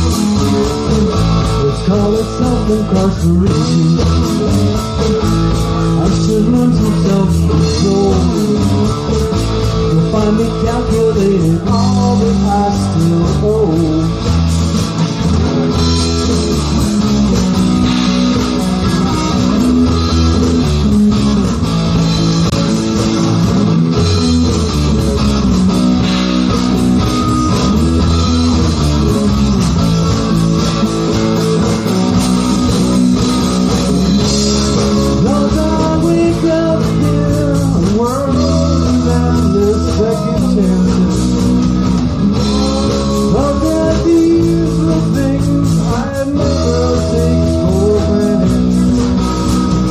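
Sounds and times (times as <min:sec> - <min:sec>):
bass guitar line: 0:00.0 - 0:49.9
electric guitar: 0:00.0 - 0:49.9.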